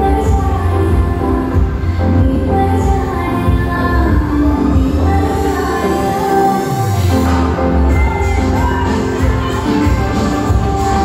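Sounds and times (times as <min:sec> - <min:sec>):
dance music with heavy bass: 0:00.0 - 0:11.0.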